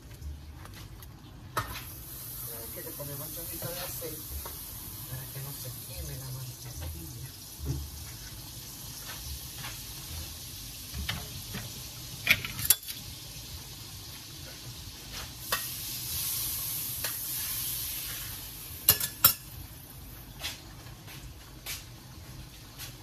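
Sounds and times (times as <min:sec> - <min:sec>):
food sizzling in a pan: 0:01.6 - 0:23.0.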